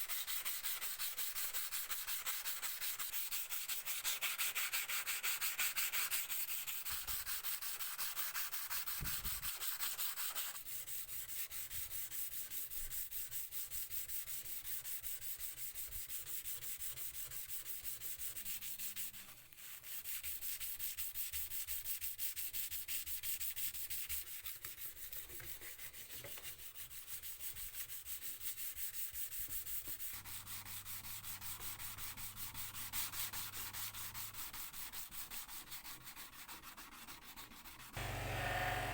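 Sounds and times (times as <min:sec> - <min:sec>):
hand sanding strokes: 0:00.0 - 0:38.9.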